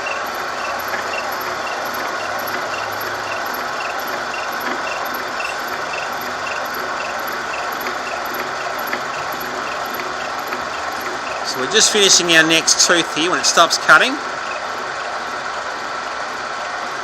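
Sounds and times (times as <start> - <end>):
milling machine cutting metal: 0.0 - 16.3.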